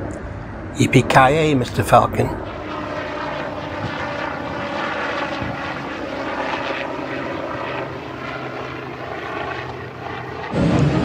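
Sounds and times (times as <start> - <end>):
helicopter rotors droning: 0.0 - 11.0.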